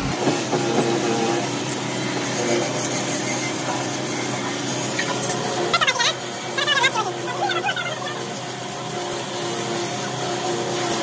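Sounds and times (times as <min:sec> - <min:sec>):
buffing wheel polishing metal: 0:00.0 - 0:11.0.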